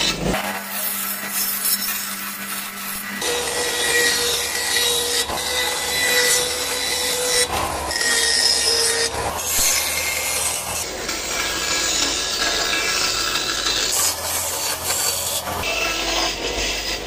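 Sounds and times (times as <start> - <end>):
band saw blade rasping through wood: 0.0 - 17.0
band saw running tone: 0.0 - 17.0.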